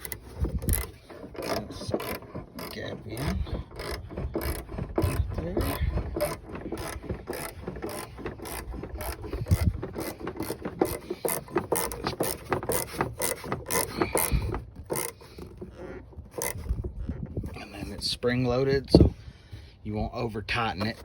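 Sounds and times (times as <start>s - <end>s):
ratchet nut clicking: 0.0s - 17.2s.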